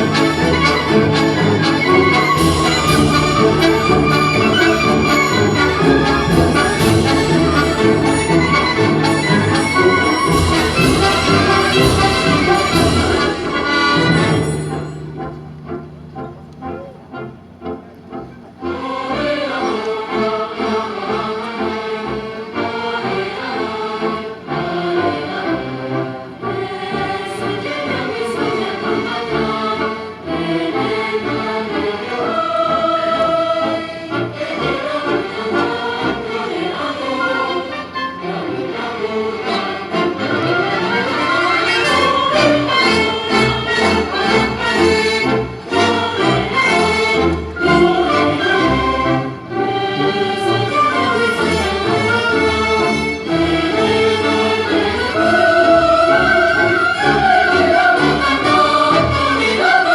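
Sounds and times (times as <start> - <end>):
choir singing: 0.0 - 59.9
symphony orchestra playing: 0.0 - 59.9.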